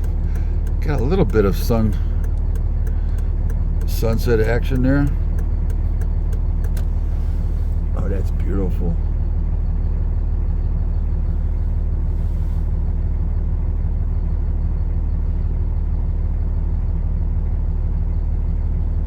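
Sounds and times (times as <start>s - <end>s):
truck engine idling: 0.0s - 16.2s.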